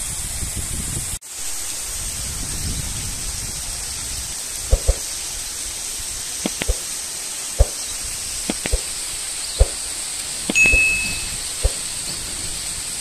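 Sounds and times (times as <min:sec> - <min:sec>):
heavy rain: 0:01.2 - 0:13.0.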